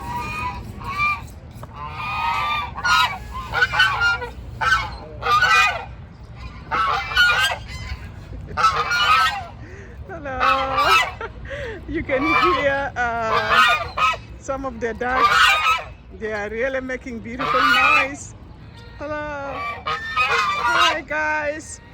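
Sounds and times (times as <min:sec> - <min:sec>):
waterfowl honking: 0:00.0 - 0:09.6, 0:10.4 - 0:11.3, 0:12.1 - 0:14.4, 0:15.0 - 0:16.5, 0:17.2 - 0:21.9.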